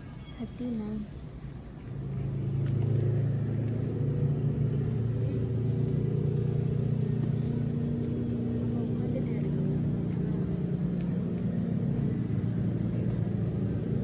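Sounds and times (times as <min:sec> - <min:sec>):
motorcycle engine running: 0:01.8 - 0:14.0.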